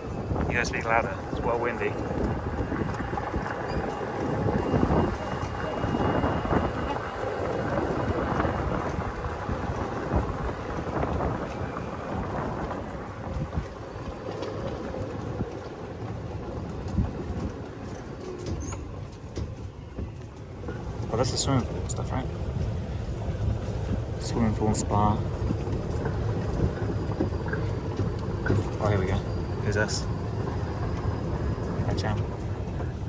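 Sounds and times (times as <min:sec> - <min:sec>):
road noise: 0:00.0 - 0:33.0
vehicle engine rumble: 0:00.0 - 0:33.0
wind buffeting microphone: 0:00.0 - 0:33.0.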